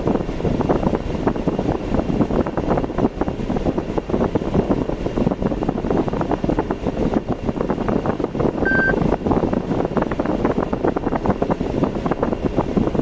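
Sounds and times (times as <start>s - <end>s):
road and wind noise from vehicle: 0.0s - 13.0s.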